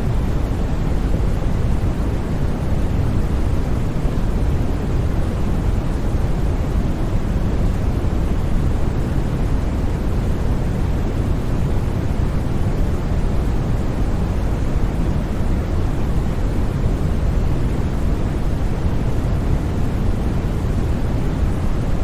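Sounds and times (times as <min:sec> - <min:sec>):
white noise hiss: 0:00.0 - 0:22.0.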